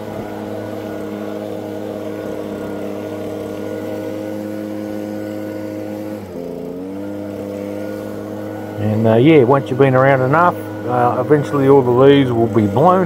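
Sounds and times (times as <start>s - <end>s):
leaf blower running: 0.0s - 13.0s.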